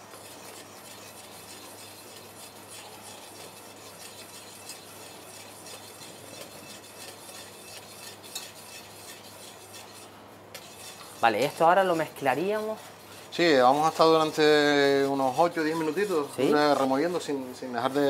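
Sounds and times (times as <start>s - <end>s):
whisk stirring and scraping puree: 0.0s - 18.0s.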